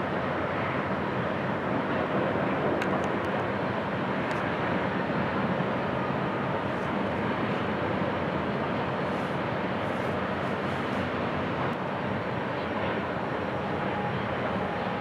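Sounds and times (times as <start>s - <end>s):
distant diesel locomotive drone: 0.0s - 15.0s.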